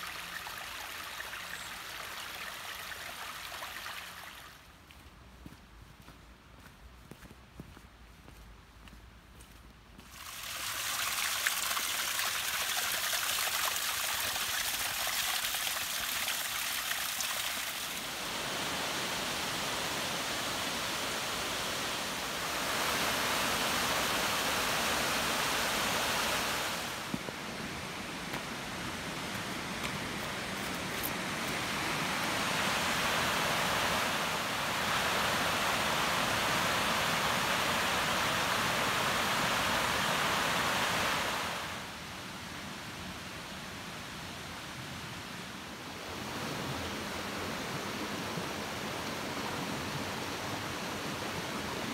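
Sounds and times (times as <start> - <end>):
small waterfall: 0.0 - 4.8, 10.0 - 51.9
stream rushing: 0.0 - 4.8, 10.0 - 51.9.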